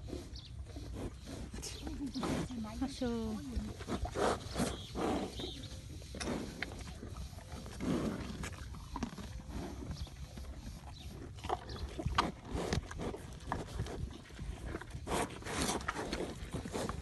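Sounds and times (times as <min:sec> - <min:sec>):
cow chewing fruit: 0:00.0 - 0:17.0.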